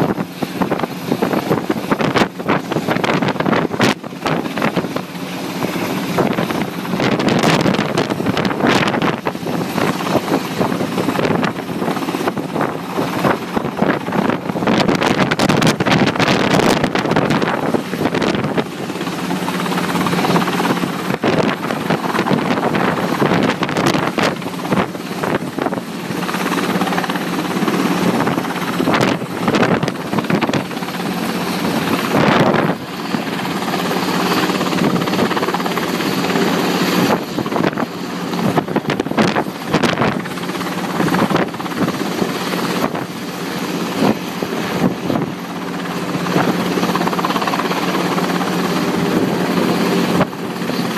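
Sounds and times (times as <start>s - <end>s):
helicopter running close by: 0.0s - 50.9s.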